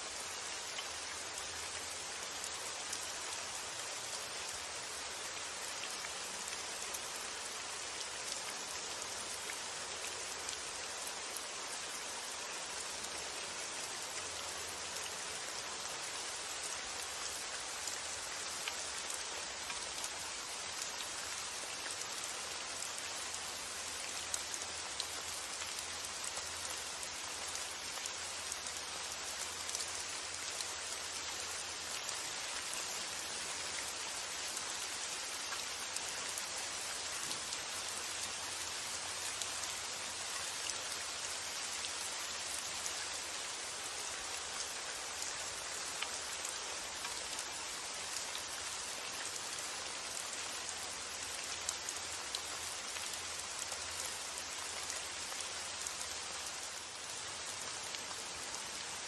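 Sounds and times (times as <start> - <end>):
raindrops ticking on surfaces: 0.0 - 59.0
steady rainfall: 0.0 - 59.0.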